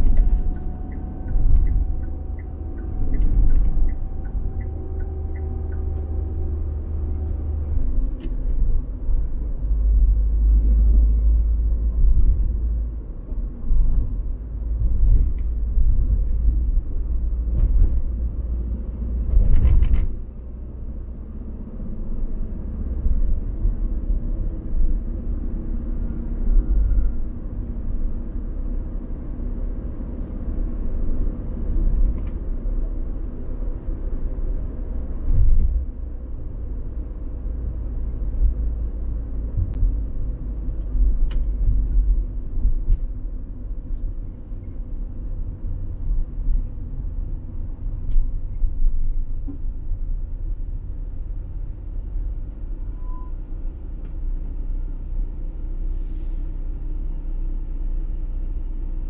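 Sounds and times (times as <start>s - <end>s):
car road rumble: 0.0s - 59.0s.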